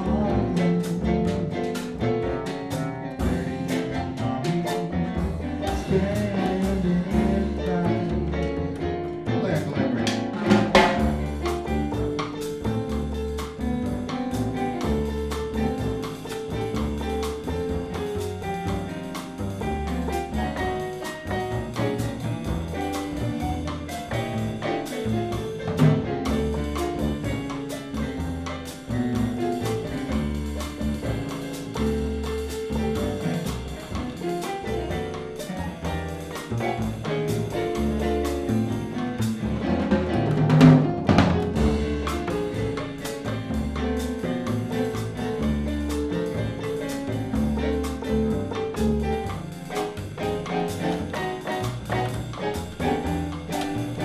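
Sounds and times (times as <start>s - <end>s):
light drums: 0.0s - 54.0s
low bass notes: 0.0s - 54.0s
digital piano playing chords: 8.4s - 40.4s, 41.0s - 54.0s.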